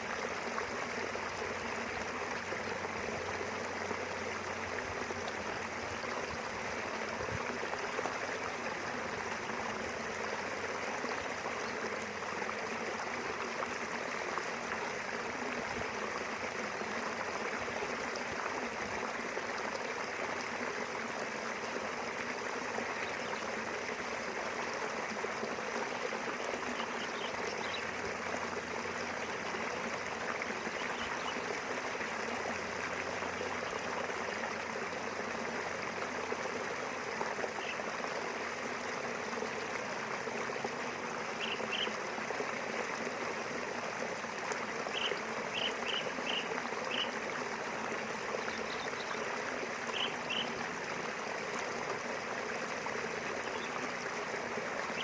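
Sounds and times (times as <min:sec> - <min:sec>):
river water flowing and splashing: 0:00.0 - 0:55.0.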